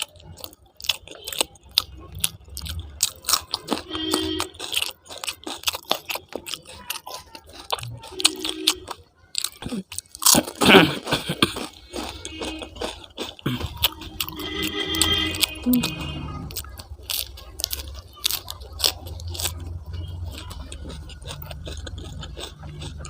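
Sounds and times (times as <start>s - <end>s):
person chewing and biting food: 0.0s - 23.0s
wet mouth clicks: 0.0s - 23.0s.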